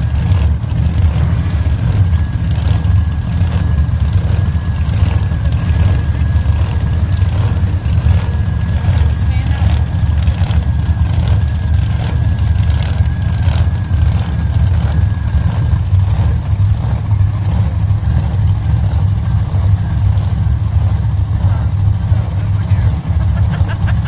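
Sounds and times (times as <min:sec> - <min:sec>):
race car engines rumbling: 0:00.0 - 0:24.0.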